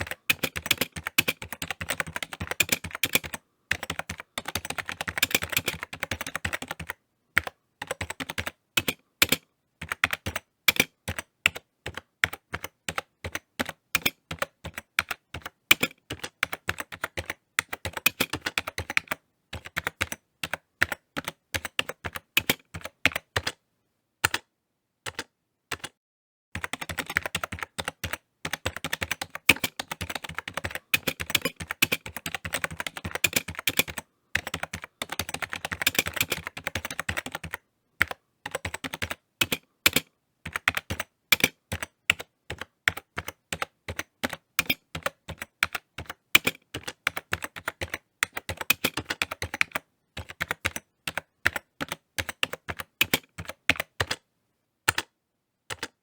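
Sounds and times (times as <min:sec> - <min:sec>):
typing on keyboard: 0:00.0 - 0:23.6, 0:24.2 - 0:24.5, 0:25.1 - 0:26.0, 0:26.6 - 0:54.3, 0:54.9 - 0:56.0.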